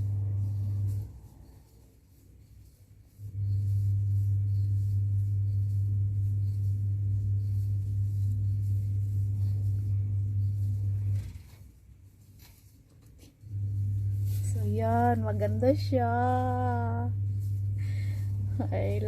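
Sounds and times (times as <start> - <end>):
loud low hum: 0.0 - 1.5, 3.1 - 11.6, 13.4 - 19.0.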